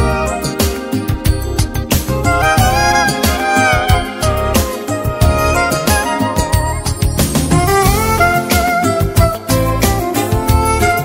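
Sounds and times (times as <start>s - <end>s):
melody with gliding notes: 0.0s - 11.0s.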